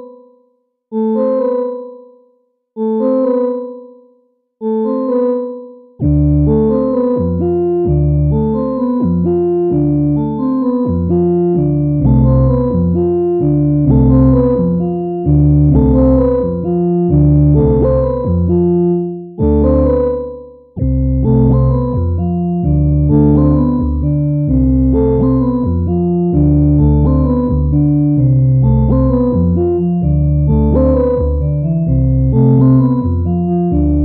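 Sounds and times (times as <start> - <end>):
electronic keyboard chords: 0.0 - 34.0
deep bass: 6.0 - 20.2, 20.8 - 34.0.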